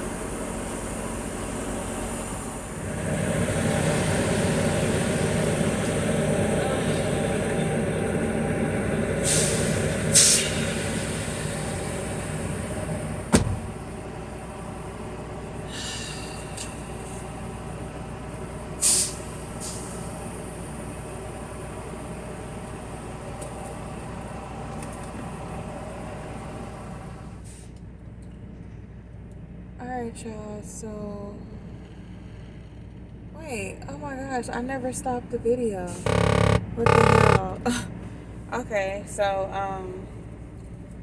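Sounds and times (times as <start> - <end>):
diesel engine running: 0.0 - 27.4, 31.6 - 41.0.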